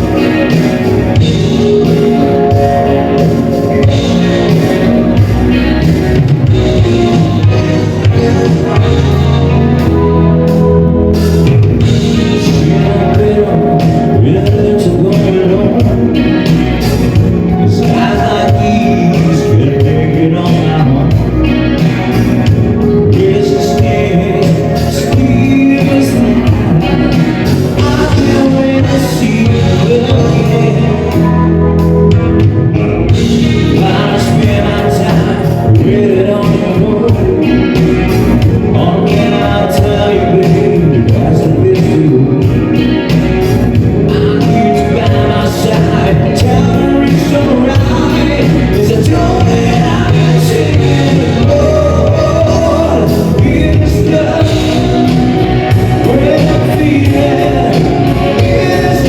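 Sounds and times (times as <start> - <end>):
live band music through a pa: 0.0 - 59.0
person singing: 0.0 - 59.0
steady drum beat: 0.0 - 59.0.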